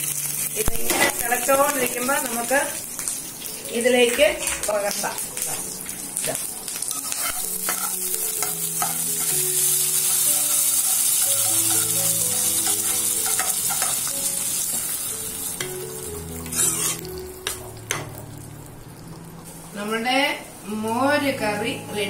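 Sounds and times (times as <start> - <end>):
hot oil sizzling: 0.0 - 22.0.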